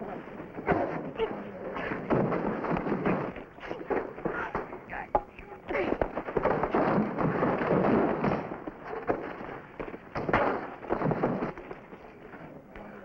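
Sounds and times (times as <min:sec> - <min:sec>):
scuffling and blows landing: 0:00.1 - 0:04.9, 0:05.6 - 0:13.0.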